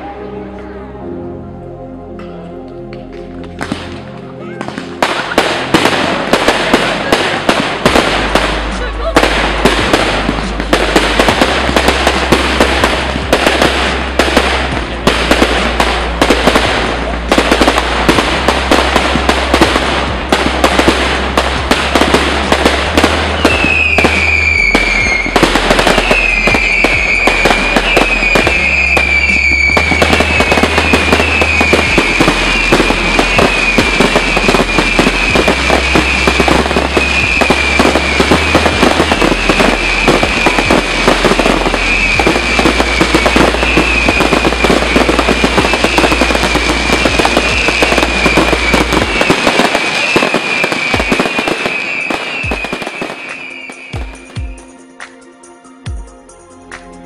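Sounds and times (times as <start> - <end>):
firework bangs and crackles: 3.5 - 54.6
high wavering firework whistle: 4.5 - 55.0.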